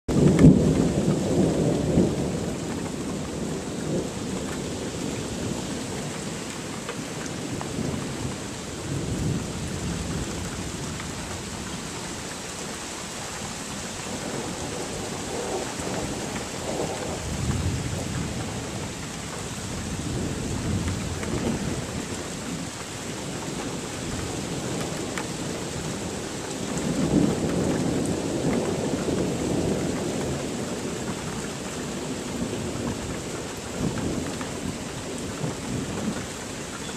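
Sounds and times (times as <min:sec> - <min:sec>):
steady rain: 0:00.1 - 0:36.9.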